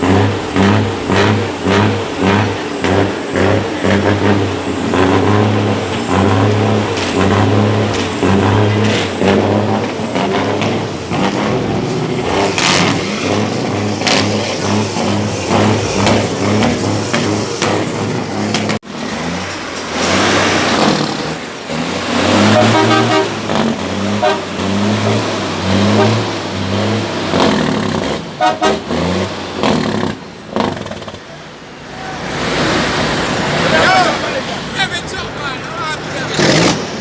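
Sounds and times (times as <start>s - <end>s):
heavy truck engines revving: 0.0s - 37.0s.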